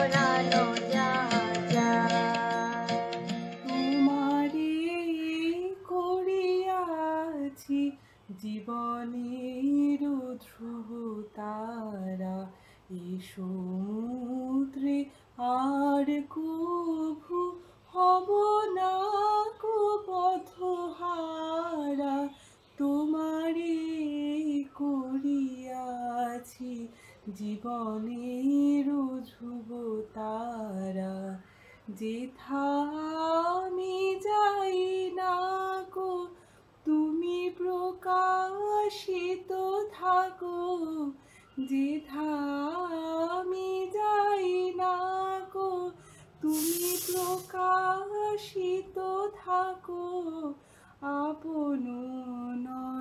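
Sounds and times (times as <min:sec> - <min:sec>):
woman singing unaccompanied: 0:00.0 - 0:53.0.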